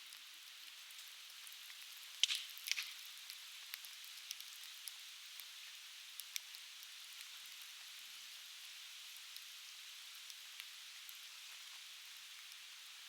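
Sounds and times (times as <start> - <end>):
firewood crackling and popping: 0.1 - 8.5, 9.1 - 12.7.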